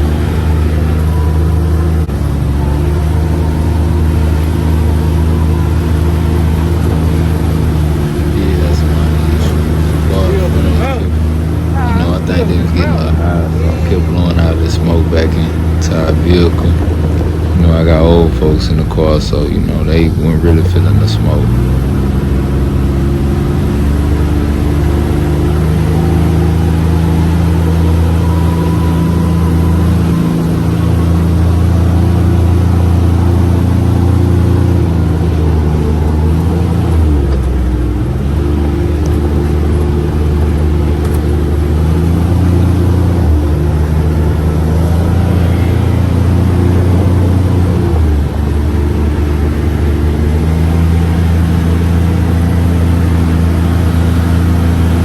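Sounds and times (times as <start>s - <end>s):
utility vehicle engine running: 0.0s - 55.0s.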